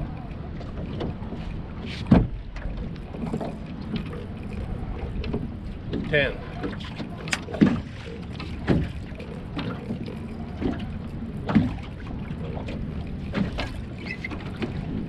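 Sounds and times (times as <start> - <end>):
knocks and thumps on boat: 0.0 - 15.0
steady low hum: 0.0 - 15.0.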